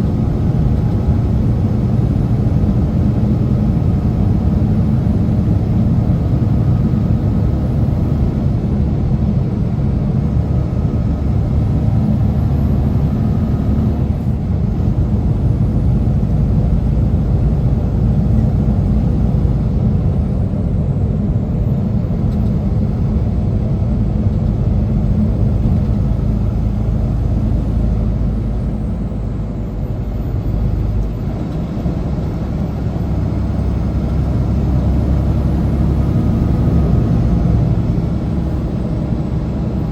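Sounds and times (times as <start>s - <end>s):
road noise: 0.0s - 39.9s
truck engine rumble from cab: 0.0s - 39.9s.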